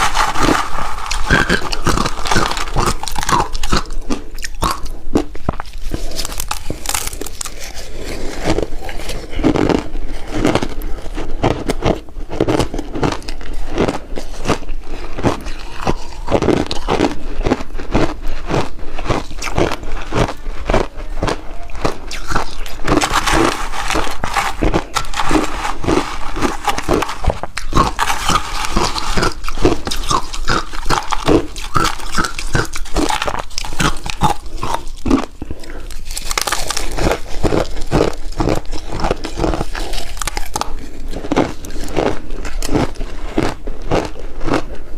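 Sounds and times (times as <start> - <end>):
ice crunching in mouth: 0.0 - 44.9.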